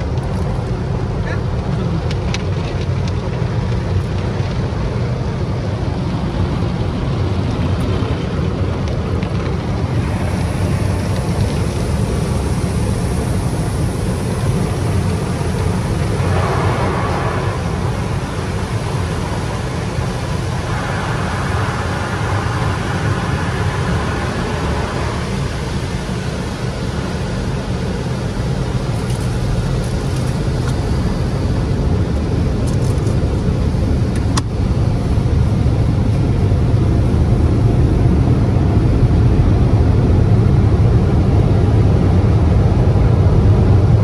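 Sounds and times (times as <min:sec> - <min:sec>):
water jets spraying on car: 0:00.0 - 0:39.2
steady low rumble: 0:00.0 - 0:44.0.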